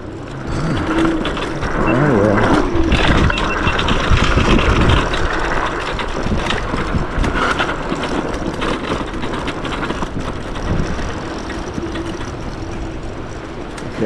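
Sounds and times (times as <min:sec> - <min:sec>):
scooter knocks and rattles: 0:00.0 - 0:14.0
tyre noise on dirt: 0:00.0 - 0:14.0
wind noise: 0:00.0 - 0:14.0.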